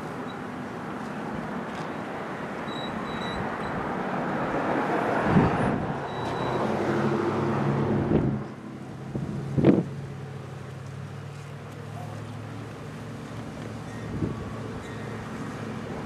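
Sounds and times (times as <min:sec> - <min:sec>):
road noise: 0:00.0 - 0:16.0
vehicle engine: 0:00.0 - 0:16.0.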